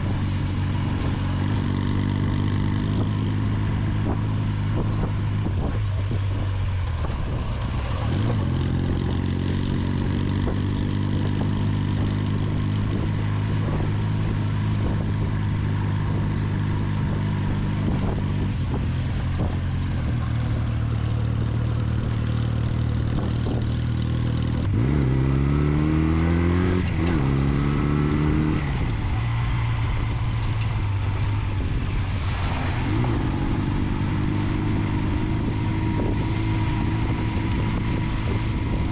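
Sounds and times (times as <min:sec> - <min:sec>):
motorcycle engine running and revving: 0:00.0 - 0:38.9.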